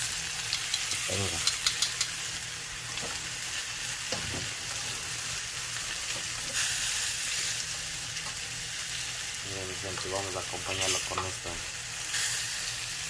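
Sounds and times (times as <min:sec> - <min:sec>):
steak sizzling on grill pan: 0:00.0 - 0:13.0.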